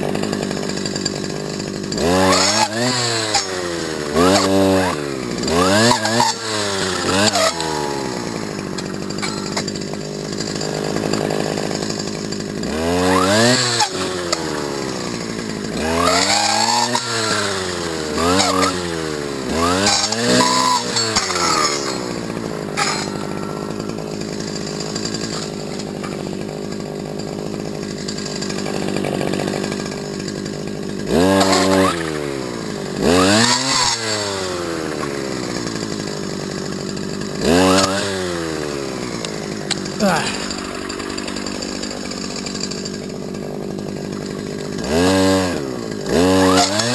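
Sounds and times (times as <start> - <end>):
brush cutter engine revving: 0.0 - 46.9.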